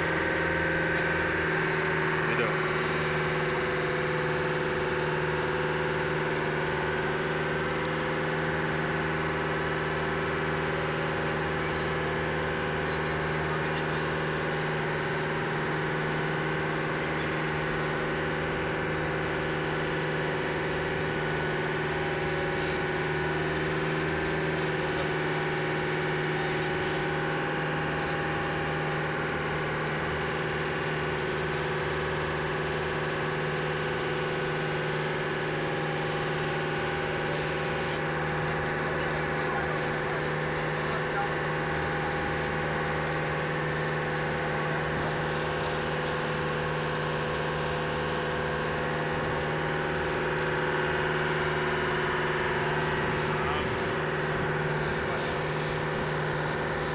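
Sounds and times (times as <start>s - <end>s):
boat engine running: 0.0s - 56.9s
churning water: 0.0s - 56.9s.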